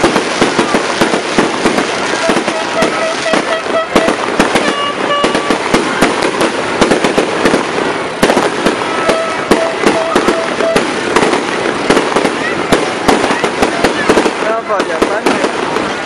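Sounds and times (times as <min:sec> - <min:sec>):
fireworks banging: 0:00.0 - 0:16.0
fireworks crackling: 0:00.0 - 0:16.0.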